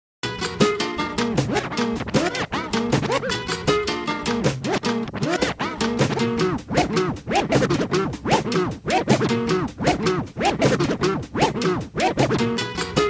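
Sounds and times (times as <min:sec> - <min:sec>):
music with a beat: 0:00.2 - 0:13.0
turntable scratching: 0:00.6 - 0:13.0.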